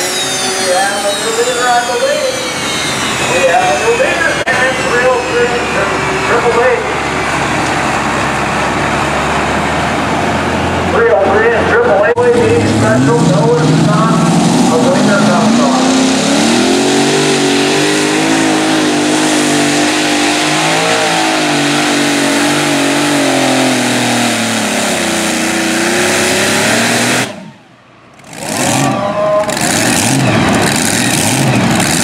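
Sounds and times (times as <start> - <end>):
pulling tractor engines at full throttle: 0.0 - 32.0.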